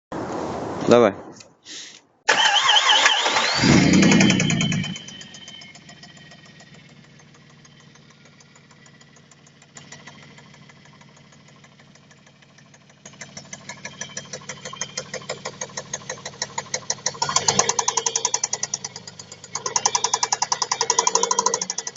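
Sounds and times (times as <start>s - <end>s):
car engine idling: 3.2s - 21.9s
fast regular engine knock: 4.2s - 21.9s.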